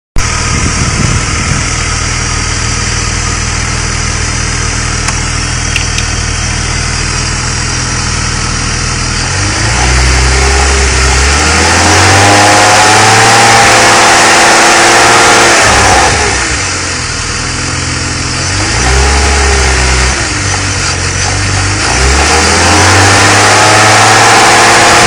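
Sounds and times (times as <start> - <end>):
engine rattle: 0.2 - 12.2, 15.5 - 25.0
car engine idling and revving: 0.2 - 25.0.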